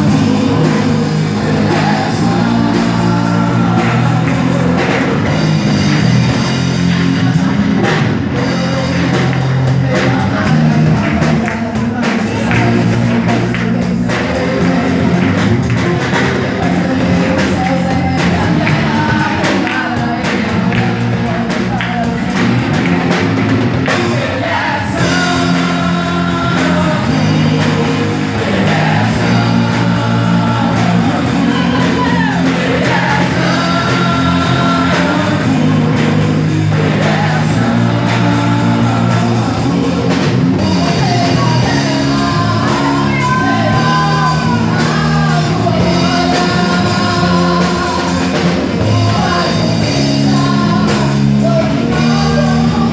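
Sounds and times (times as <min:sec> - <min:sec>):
person singing: 0:00.0 - 0:22.9, 0:24.0 - 0:52.9
rock band playing: 0:00.0 - 0:52.9.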